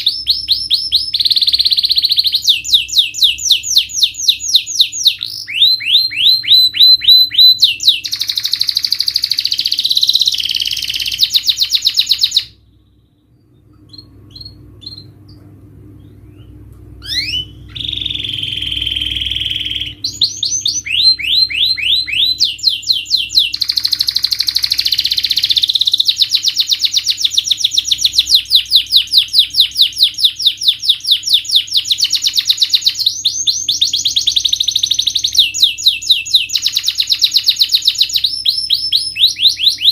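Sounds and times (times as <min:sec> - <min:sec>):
canary singing trills: 0:00.0 - 0:39.9
faint low hum: 0:00.0 - 0:39.9.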